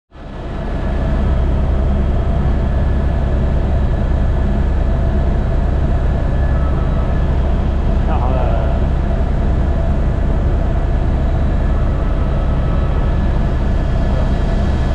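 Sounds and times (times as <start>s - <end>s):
helicopter rotor and engine drone: 0.2s - 14.9s.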